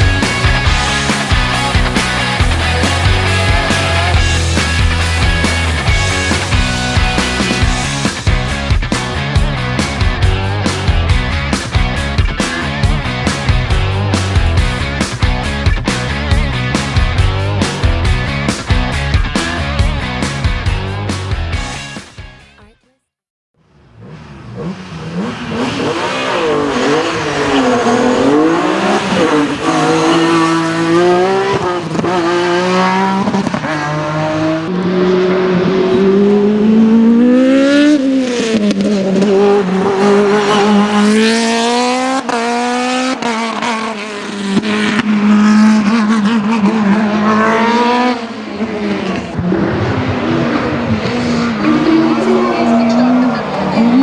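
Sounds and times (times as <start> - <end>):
race car engine accelerating: 0.0 - 18.6, 23.7 - 54.0.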